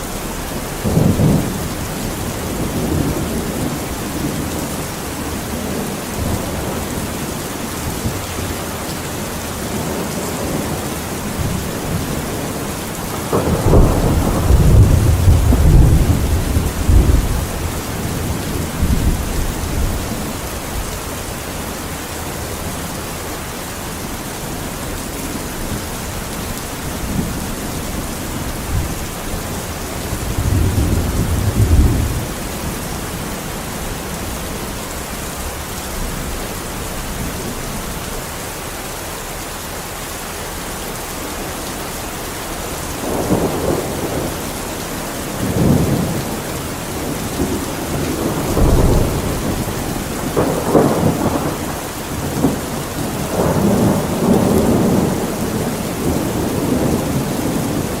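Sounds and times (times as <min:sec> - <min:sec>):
thunder rumbling: 0:00.0 - 0:38.2, 0:41.2 - 0:58.0
heavy rain: 0:00.0 - 0:58.0.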